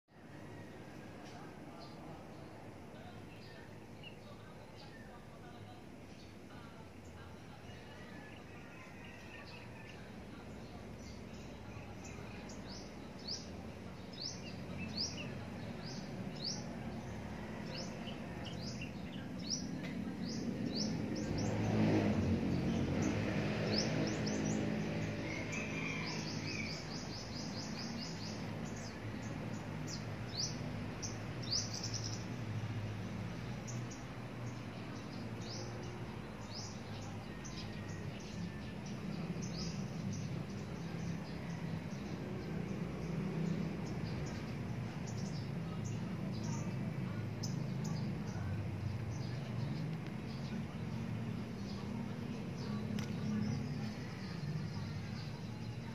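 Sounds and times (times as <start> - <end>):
small birds chirping: 0.1 - 55.9.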